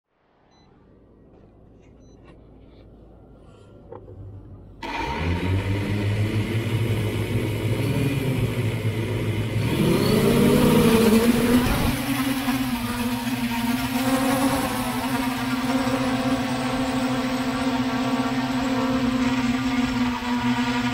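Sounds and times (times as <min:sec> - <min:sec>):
drone motors humming and whining: 0:02.2 - 0:20.9.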